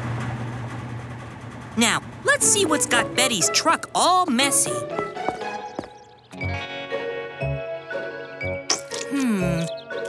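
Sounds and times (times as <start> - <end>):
cartoon background music: 1.8 - 10.0.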